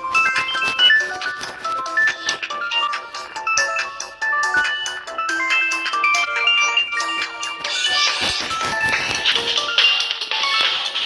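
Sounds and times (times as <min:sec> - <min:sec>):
mobile phone ringtone melody: 0:00.0 - 0:10.0.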